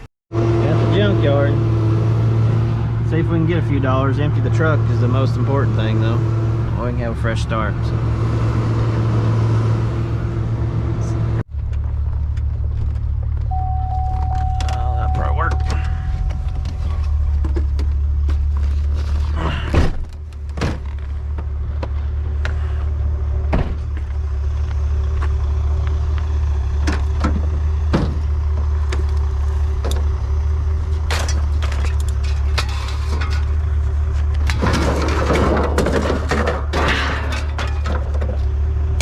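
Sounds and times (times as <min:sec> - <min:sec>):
truck engine and road drone: 0:00.0 - 0:39.0.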